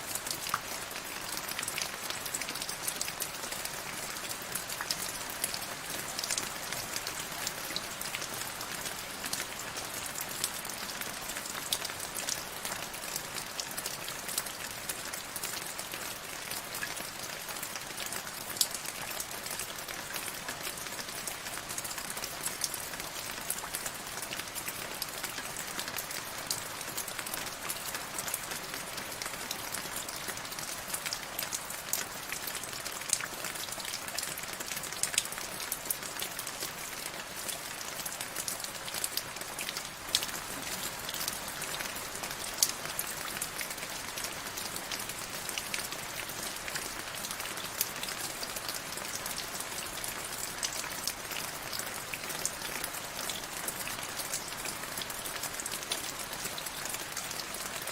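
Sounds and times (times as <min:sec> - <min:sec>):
rain drops ticking on hard surface: 0:00.1 - 0:57.9.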